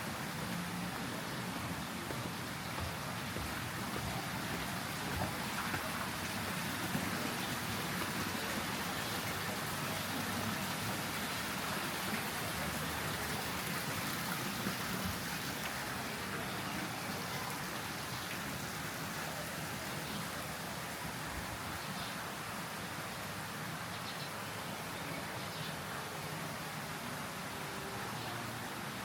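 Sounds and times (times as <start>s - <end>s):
falling water splashing: 0.0s - 23.8s.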